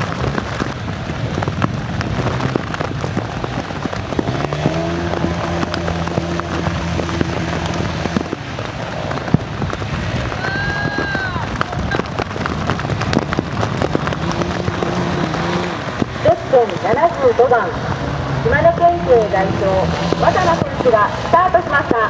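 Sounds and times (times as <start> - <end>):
motorcycle engine: 0.0 - 21.6
heavy rain pattering: 0.0 - 22.0.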